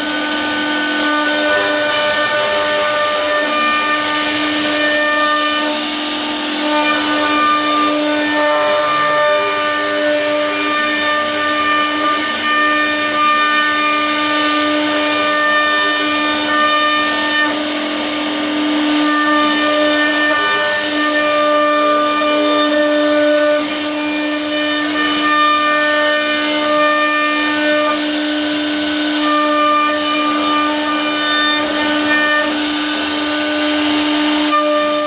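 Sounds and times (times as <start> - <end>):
router spindle high whine: 0.0 - 35.0.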